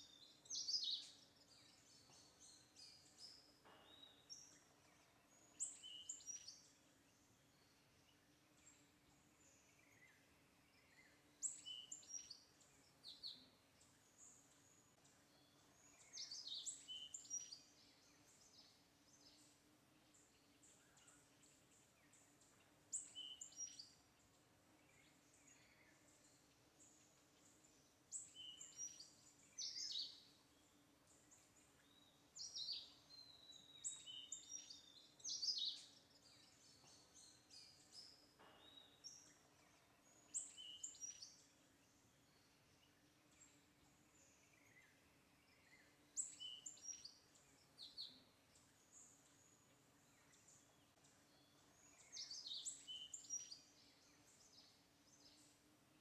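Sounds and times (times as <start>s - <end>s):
faint steady hum: 0.0s - 56.0s
small birds chirping: 0.0s - 56.0s.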